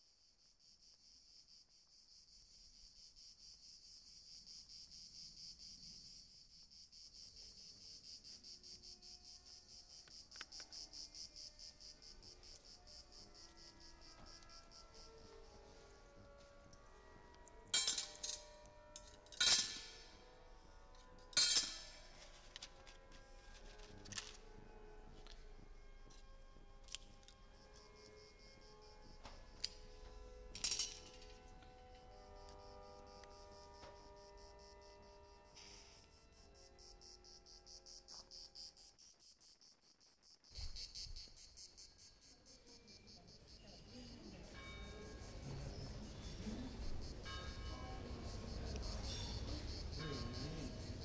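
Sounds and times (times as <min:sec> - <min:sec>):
cricket chirping: 0:00.0 - 0:51.0
soft background music: 0:00.2 - 0:39.1, 0:41.0 - 0:51.0.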